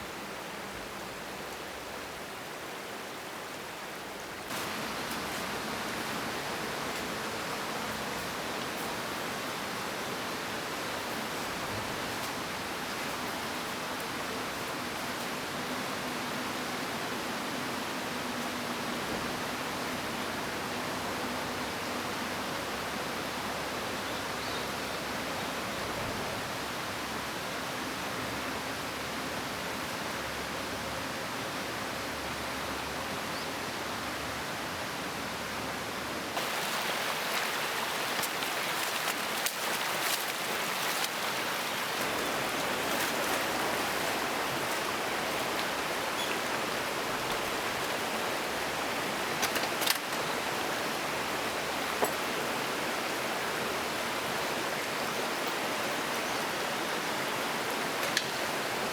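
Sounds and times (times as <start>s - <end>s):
stream flowing: 0.0s - 24.0s, 34.3s - 58.9s.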